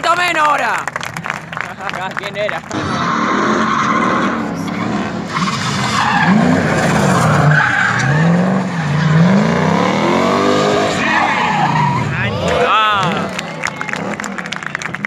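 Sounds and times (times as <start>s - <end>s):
car engine revving: 2.6s - 15.0s
tyres squealing on asphalt: 2.7s - 15.0s.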